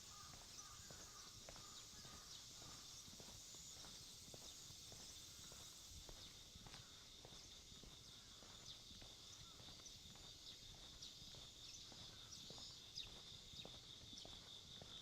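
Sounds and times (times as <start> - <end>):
insects chirring: 0.0 - 15.0
light footsteps: 0.0 - 15.0.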